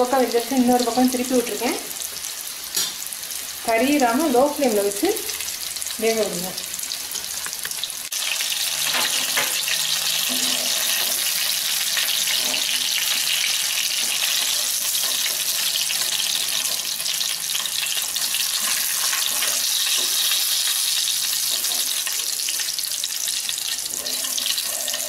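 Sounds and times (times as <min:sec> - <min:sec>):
fish frying in oil: 0:00.0 - 0:25.0.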